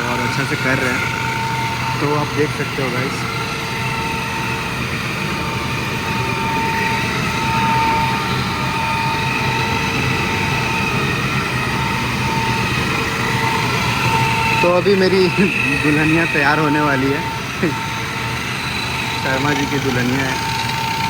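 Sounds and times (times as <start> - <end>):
polishing machine whining: 0.0 - 21.0.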